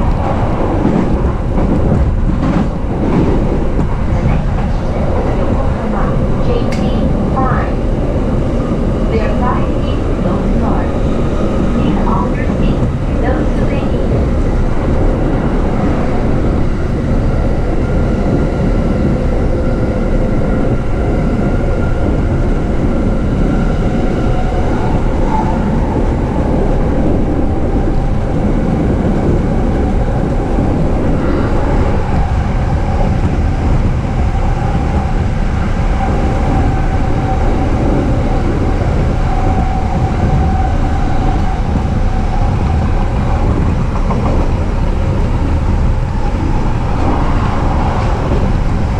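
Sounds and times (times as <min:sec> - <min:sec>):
train wheels rumbling on rail: 0:00.0 - 0:48.9.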